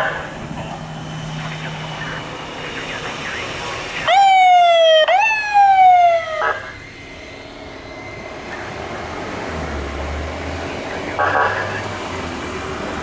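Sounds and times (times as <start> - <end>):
police motorcycle siren: 0.0 - 9.5, 10.7 - 11.9
traffic noise: 0.0 - 13.0.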